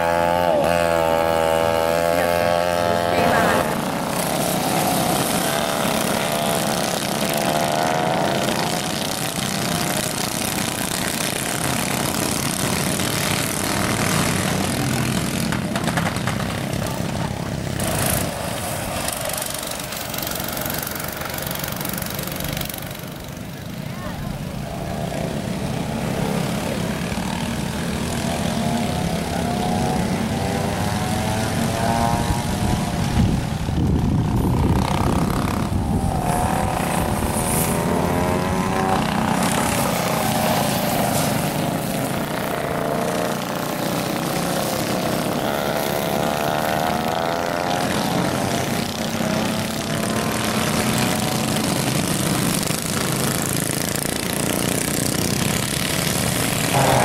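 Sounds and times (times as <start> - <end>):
minibike engines buzzing: 0.0 - 57.0.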